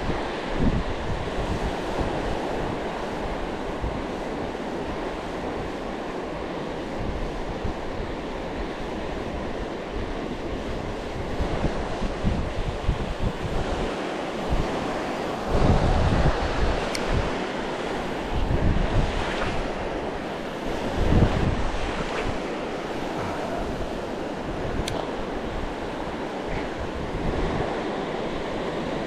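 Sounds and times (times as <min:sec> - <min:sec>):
surf washing onto shore: 0:00.0 - 0:29.0
wind buffeting microphone: 0:00.0 - 0:29.0.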